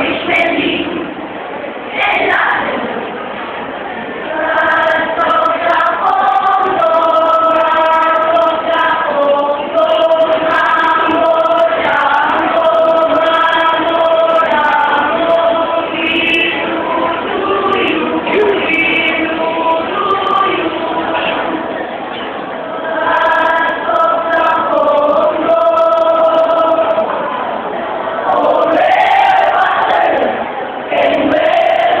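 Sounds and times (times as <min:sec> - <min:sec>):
choir singing: 0:00.0 - 0:01.2, 0:01.9 - 0:03.1, 0:04.1 - 0:32.0.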